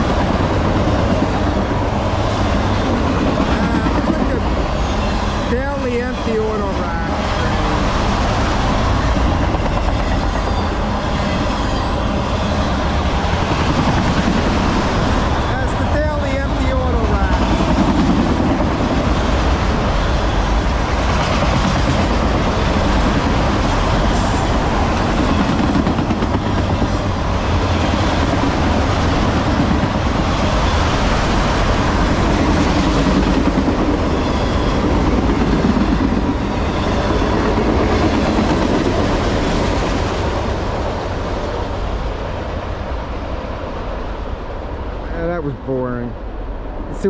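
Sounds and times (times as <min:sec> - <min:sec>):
steel wheels on rail: 0:00.0 - 0:44.2.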